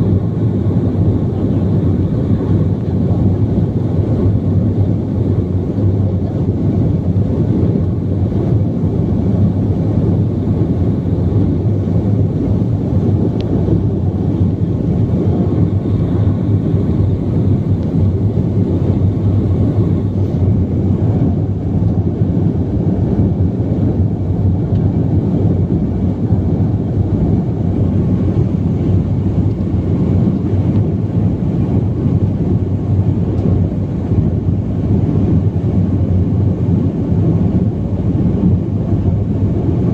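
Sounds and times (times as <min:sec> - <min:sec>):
airplane cabin airflow: 0:00.0 - 0:39.9
jet engines droning: 0:00.0 - 0:39.9
steady low hum: 0:00.0 - 0:39.9.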